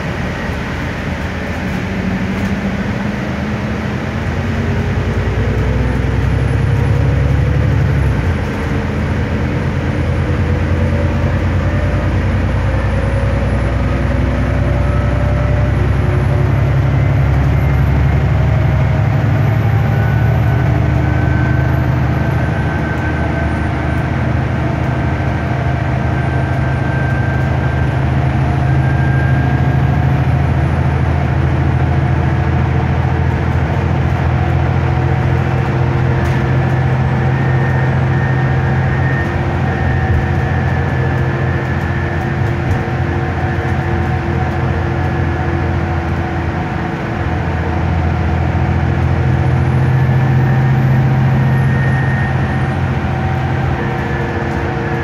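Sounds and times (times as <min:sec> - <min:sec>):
bus engine drone: 0:00.0 - 0:55.0
rising whine: 0:00.0 - 0:55.0
road and tyre noise: 0:00.0 - 0:55.0.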